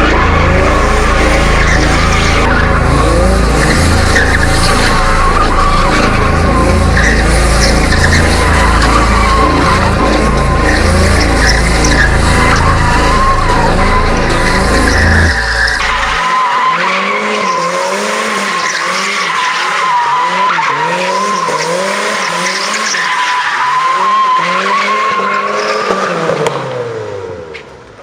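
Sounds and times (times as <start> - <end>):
car engine revving: 0.0 - 28.0
tires squealing: 0.0 - 28.0.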